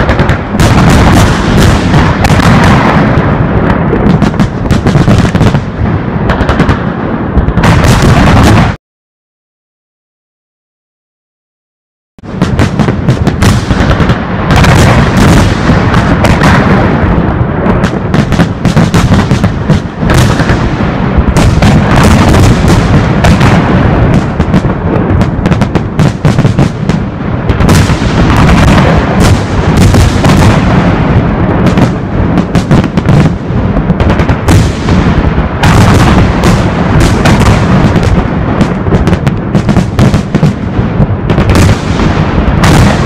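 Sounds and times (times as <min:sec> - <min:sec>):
firework bangs and crackles: 0:00.0 - 0:08.8, 0:12.2 - 0:43.0.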